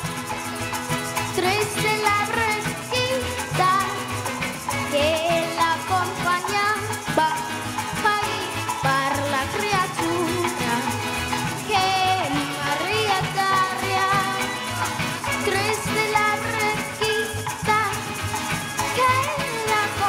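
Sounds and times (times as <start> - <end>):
band playing: 0.0 - 20.0
maracas shaking: 0.0 - 20.0
girl singing: 1.4 - 4.2, 4.9 - 18.2, 18.8 - 20.0.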